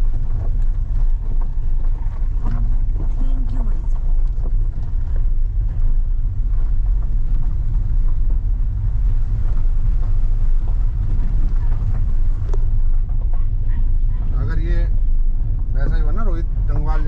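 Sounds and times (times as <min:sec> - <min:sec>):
car engine and tyres droning: 0:00.0 - 0:17.0.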